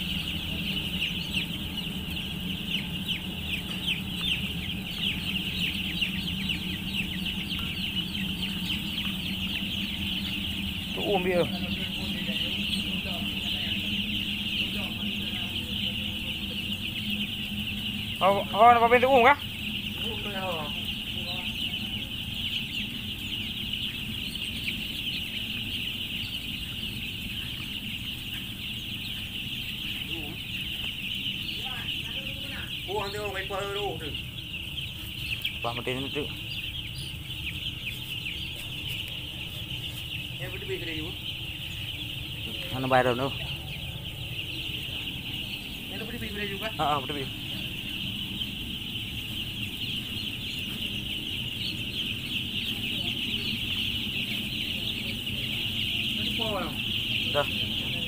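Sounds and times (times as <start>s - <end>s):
chicks peeping: 0.0s - 58.0s
steady low hum: 0.0s - 58.0s.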